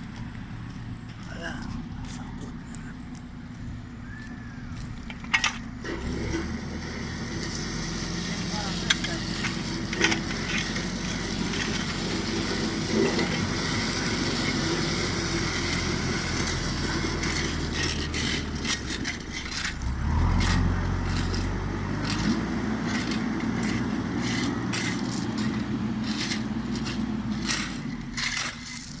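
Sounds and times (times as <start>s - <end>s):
gravel crunching: 0.0s - 29.0s
heavy machinery engine running: 0.0s - 29.0s.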